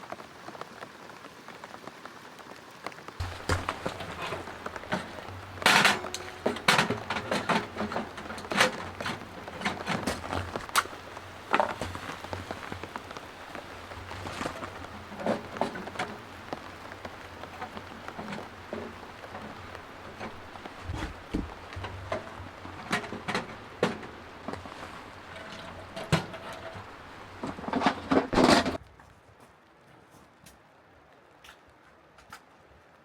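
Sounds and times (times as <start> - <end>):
rain pattering on tent: 0.0 - 33.0.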